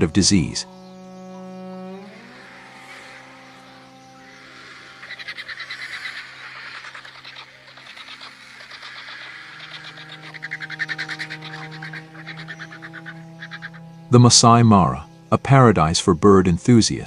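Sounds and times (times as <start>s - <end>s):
rapid pulsed animal calls: 0.0s - 15.7s
steady low tones: 0.0s - 17.0s.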